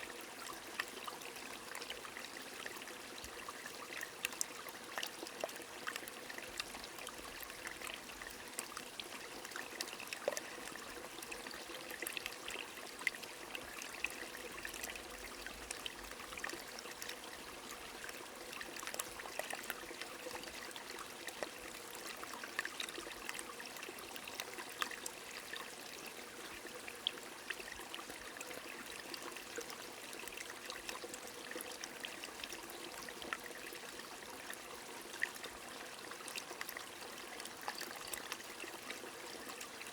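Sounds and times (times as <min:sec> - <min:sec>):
rain drips and splashes: 0:00.0 - 0:39.9
stream trickling: 0:00.0 - 0:39.9.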